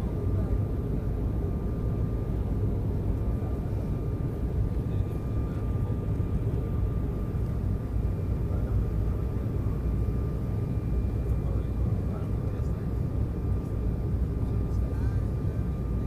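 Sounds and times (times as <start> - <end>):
airliner engine and airflow rumble: 0.0 - 16.0.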